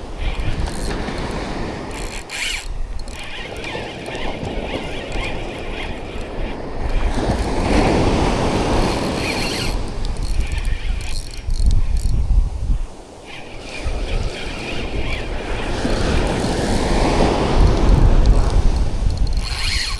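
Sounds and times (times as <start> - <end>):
fishing reel squealing and clicking: 0.0 - 19.9
wind: 0.0 - 19.9.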